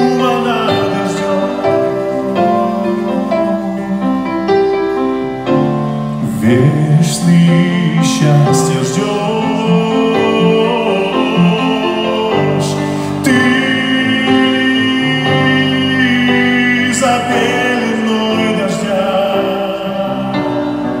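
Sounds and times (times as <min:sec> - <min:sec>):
man singing a slow ballad: 0:00.0 - 0:03.9, 0:06.2 - 0:21.0
grand piano: 0:00.0 - 0:21.0.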